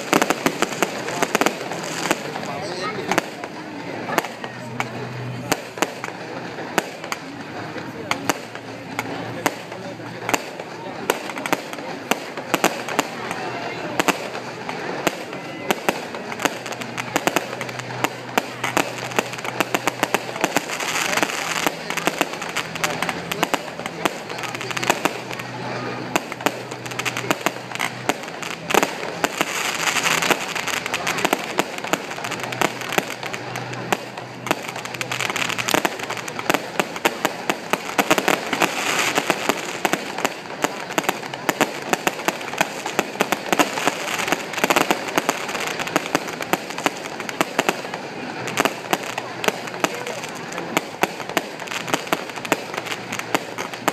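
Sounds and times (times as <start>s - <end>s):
fireworks bangs and pops: 0.0s - 53.9s.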